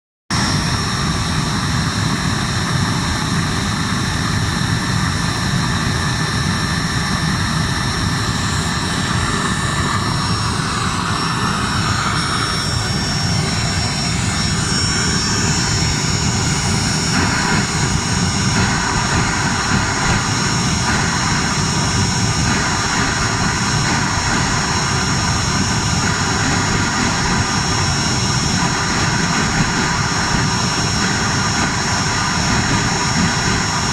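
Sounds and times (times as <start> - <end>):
heater combustion and blower rushing: 0.3 - 33.9
thin high whine: 0.3 - 33.9.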